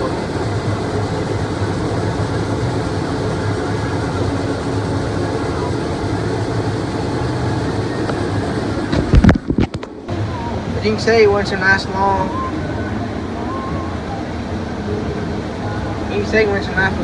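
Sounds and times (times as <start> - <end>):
combine harvester droning: 0.0 - 17.0.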